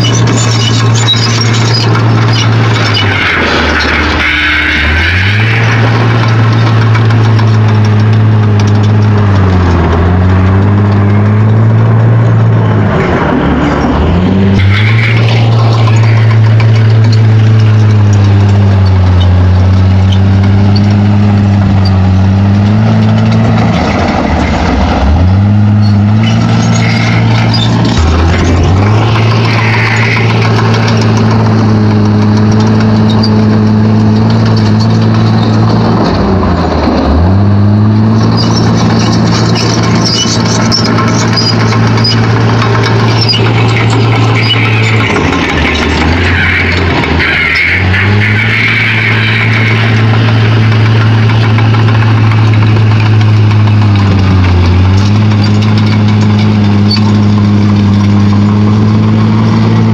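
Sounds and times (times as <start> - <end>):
short squeals: 0.0 - 10.1, 13.7 - 23.6, 25.5 - 35.9, 37.9 - 58.0
bulldozer diesel engine running: 0.0 - 59.9.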